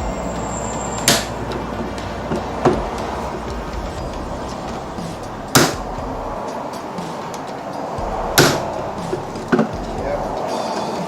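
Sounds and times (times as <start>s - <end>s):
hammer striking steel: 0.0s - 9.7s.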